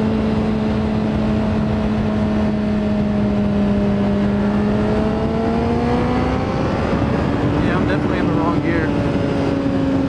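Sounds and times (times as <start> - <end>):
motorcycle engine running: 0.0 - 10.0
wind noise on microphone: 0.0 - 10.0.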